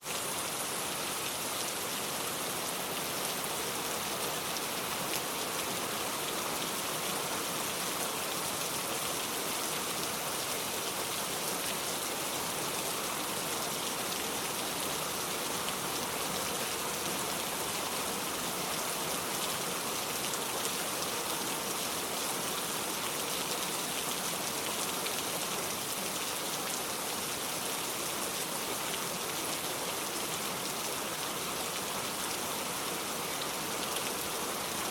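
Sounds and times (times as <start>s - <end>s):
rain patter on a surface: 0.0s - 34.9s.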